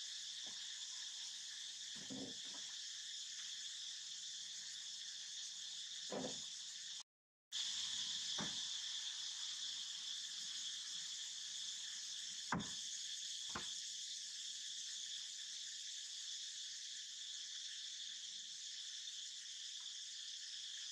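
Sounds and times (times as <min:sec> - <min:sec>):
insects chirping: 0:00.0 - 0:20.9.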